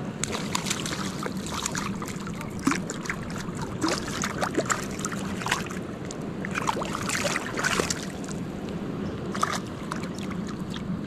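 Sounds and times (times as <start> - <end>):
steady low hum: 0.0 - 11.0
water splashing and sloshing: 0.0 - 11.0.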